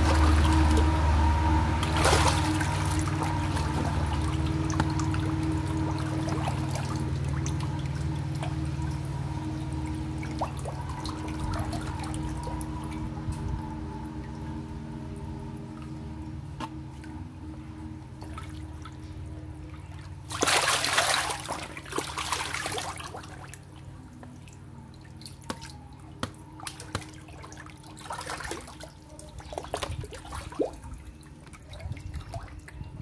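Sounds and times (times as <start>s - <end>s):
water dripping: 0.0s - 32.8s
fish splashing in water: 0.0s - 32.9s
steady low hum: 0.0s - 33.0s.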